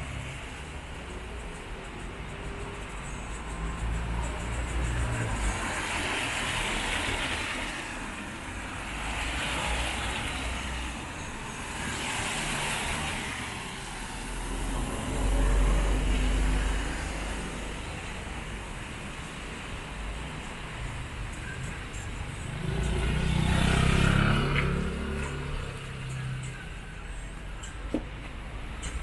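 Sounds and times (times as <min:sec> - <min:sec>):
tyre hiss of passing vehicles: 0:00.0 - 0:27.5.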